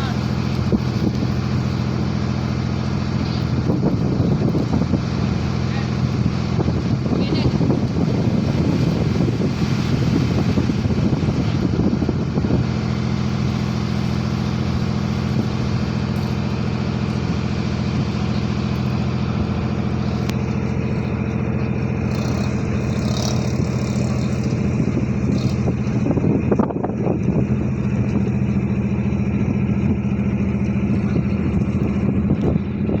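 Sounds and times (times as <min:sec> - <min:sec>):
ship engine humming: 0:00.0 - 0:33.0
wind noise on microphone: 0:00.0 - 0:33.0.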